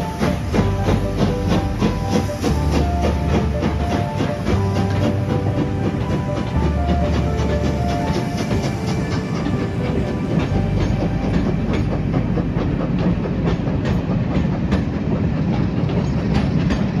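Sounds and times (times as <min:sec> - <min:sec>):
train coaches rumbling: 0:00.0 - 0:17.0
wheels clicking over rail joints: 0:00.0 - 0:17.0.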